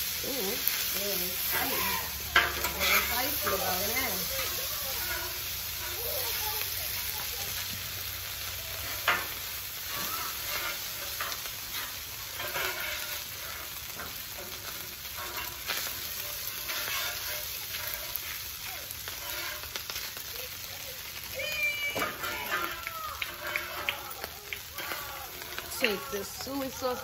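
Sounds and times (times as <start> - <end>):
spatula scraping griddle: 0.0 - 21.3, 21.9 - 27.0
food sizzling on griddle: 0.0 - 27.0.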